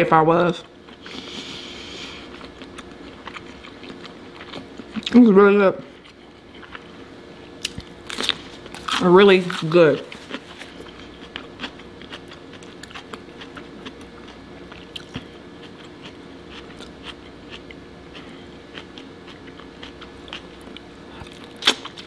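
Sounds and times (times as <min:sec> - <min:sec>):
faint steady hum: 0:00.0 - 0:22.0
chewing and mouth sounds: 0:00.5 - 0:05.3, 0:05.9 - 0:22.0.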